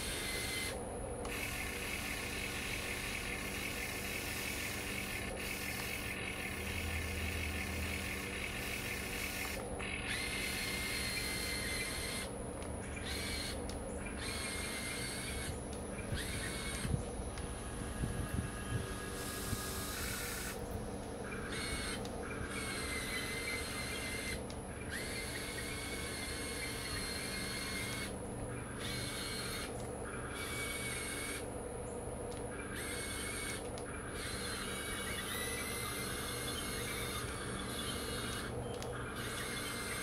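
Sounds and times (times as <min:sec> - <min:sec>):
electric motors whirring: 0:00.0 - 0:40.0
high motor whine: 0:00.0 - 0:40.0
steady low hum: 0:00.0 - 0:40.0.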